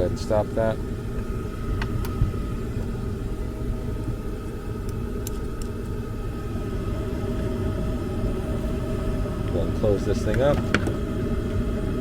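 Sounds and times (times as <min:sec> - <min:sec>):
gas furnace rumbling: 0:00.0 - 0:12.0.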